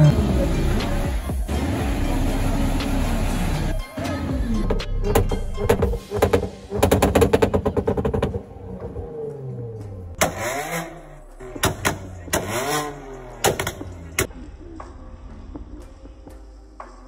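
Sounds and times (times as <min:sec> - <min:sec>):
car engine revving: 0:00.0 - 0:14.3.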